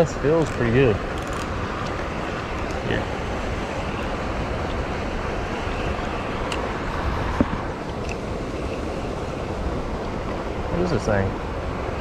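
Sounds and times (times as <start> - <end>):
water rushing below dam spillway: 0.0 - 12.0.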